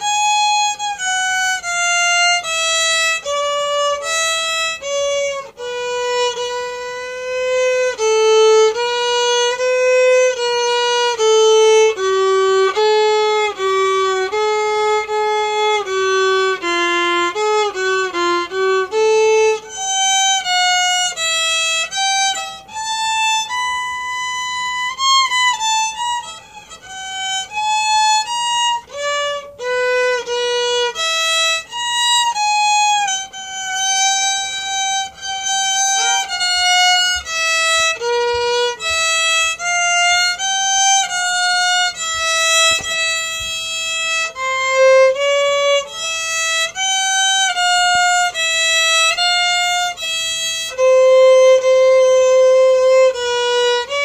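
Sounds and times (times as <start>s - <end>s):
solo violin melody: 0.0s - 54.0s.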